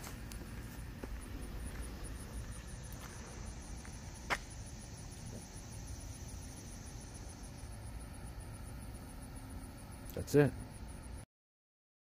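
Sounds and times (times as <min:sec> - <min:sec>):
steady low rumble: 0:00.0 - 0:11.2
insect chirping: 0:00.0 - 0:11.3.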